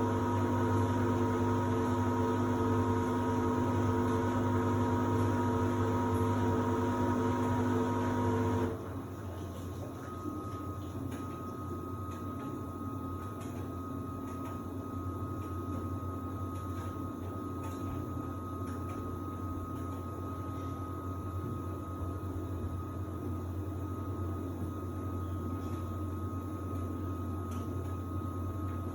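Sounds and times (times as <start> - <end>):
washing machine motor hum: 0.0 - 28.9.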